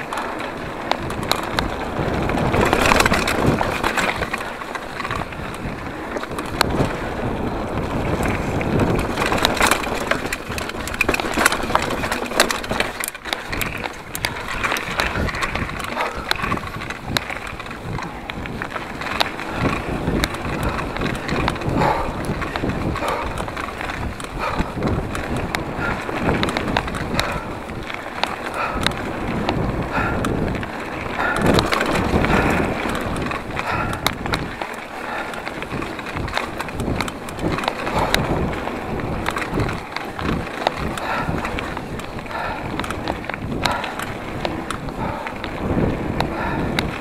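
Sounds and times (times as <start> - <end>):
bike rattling and knocking: 0.0 - 47.0
tyres crunching over dirt and stones: 0.0 - 47.0
wind buffeting microphone: 0.0 - 47.0.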